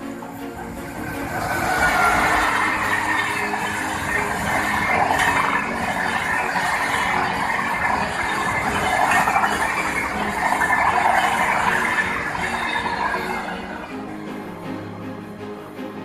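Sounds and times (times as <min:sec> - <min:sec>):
train wheels rushing on rails: 0:00.0 - 0:14.6.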